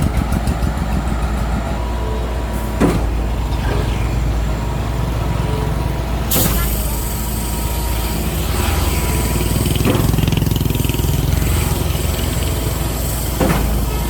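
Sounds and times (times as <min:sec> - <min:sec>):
large diesel engine running: 0:00.0 - 0:14.0.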